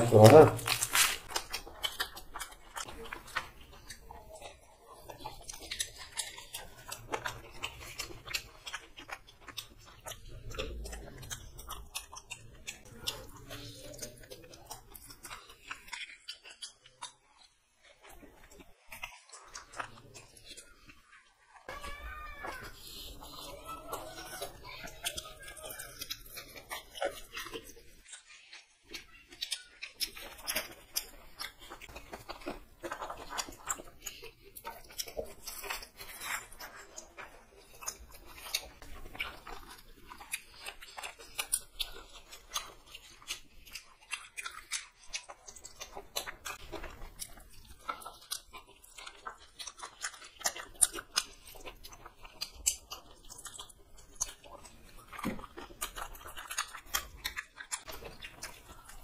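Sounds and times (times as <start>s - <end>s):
people chewing crunchy food: 0.0s - 59.0s.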